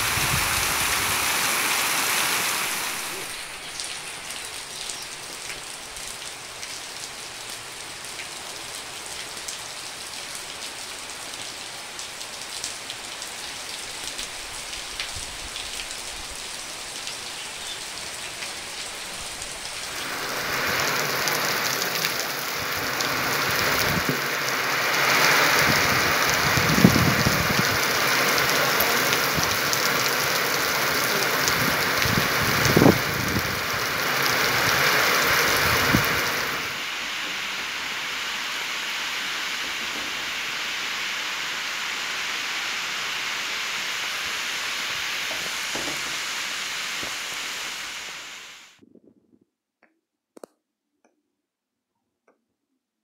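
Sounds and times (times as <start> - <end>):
heavy downpour on pavement: 0.0 - 48.8
rain on wet ground: 0.0 - 48.8.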